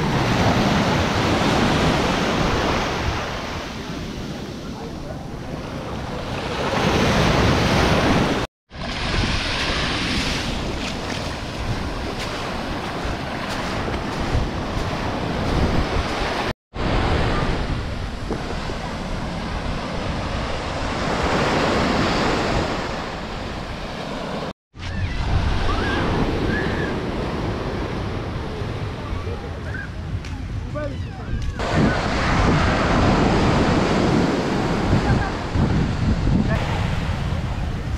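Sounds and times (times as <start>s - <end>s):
wind buffeting microphone: 0.0s - 23.9s, 24.8s - 37.9s
sea waves breaking on beach: 0.0s - 28.4s, 31.6s - 37.9s.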